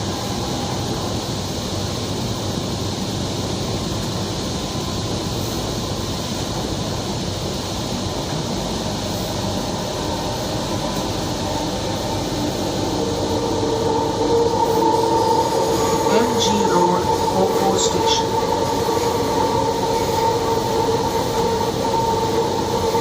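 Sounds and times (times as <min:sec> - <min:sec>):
train car running noise: 0:00.0 - 0:23.0.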